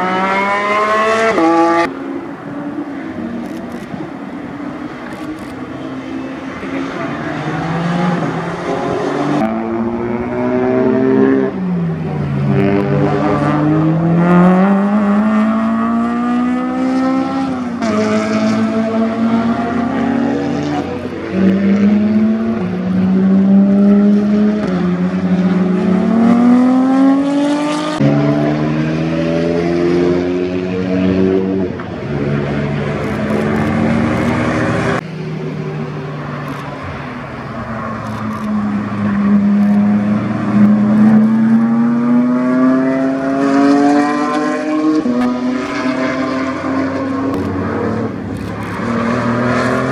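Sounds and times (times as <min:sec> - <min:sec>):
race car engines braking and accelerating: 0:00.0 - 0:49.9.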